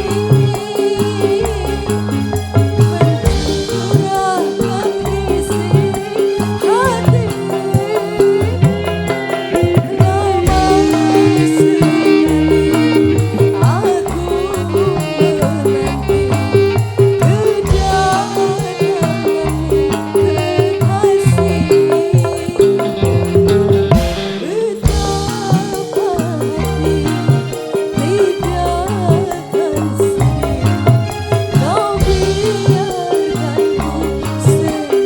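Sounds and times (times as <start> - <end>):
bass line: 0.0 - 34.9
band playing through sound system: 0.0 - 35.0
hand drums: 0.0 - 35.0.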